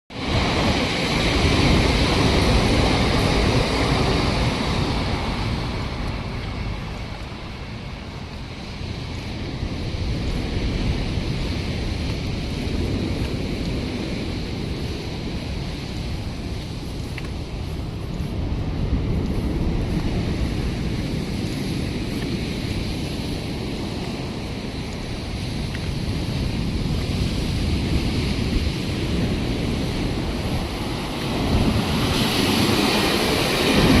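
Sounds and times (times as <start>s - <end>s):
surf rushing on beach: 0.1s - 34.0s
wind buffeting microphone: 0.1s - 34.0s.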